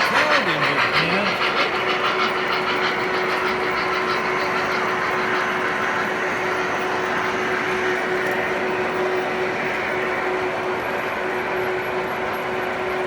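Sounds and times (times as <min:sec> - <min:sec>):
model trains rumbling: 0:00.0 - 0:13.0.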